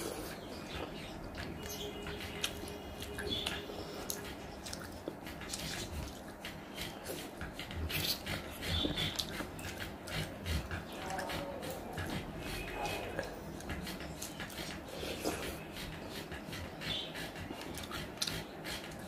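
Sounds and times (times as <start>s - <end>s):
person chewing with lip smacks: 0.0s - 19.0s.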